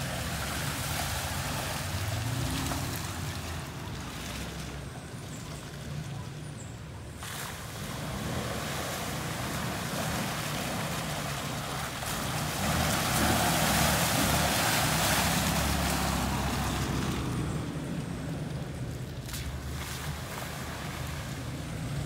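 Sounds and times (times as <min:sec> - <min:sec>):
vehicle engine under load: 0:00.0 - 0:22.0
water splashing: 0:00.0 - 0:22.0.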